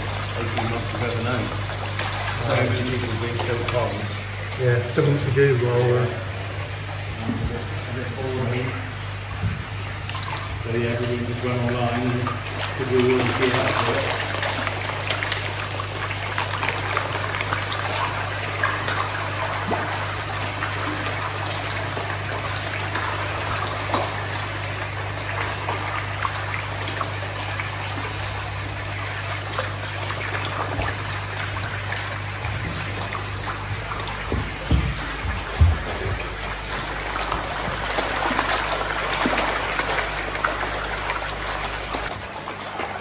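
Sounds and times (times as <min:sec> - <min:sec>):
water trickling and splashing: 0:00.0 - 0:43.0.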